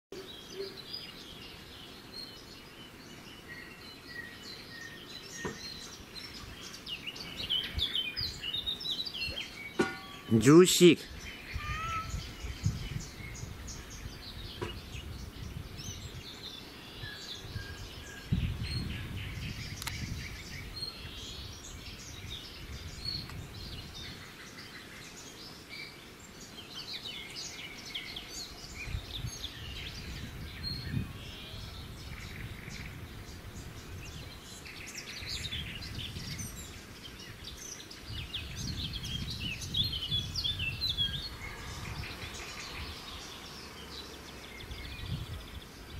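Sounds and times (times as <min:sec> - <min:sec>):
songbirds chirping: 0:00.1 - 0:45.9.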